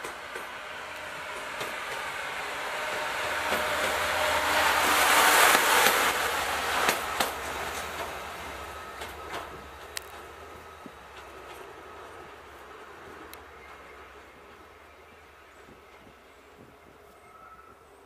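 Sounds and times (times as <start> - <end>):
diesel locomotive passing: 0.0 - 18.0.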